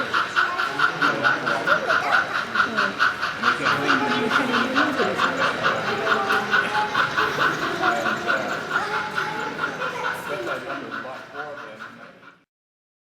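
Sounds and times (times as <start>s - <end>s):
people talking: 0.0s - 12.5s
train wheels rhythmic beat: 0.0s - 12.5s.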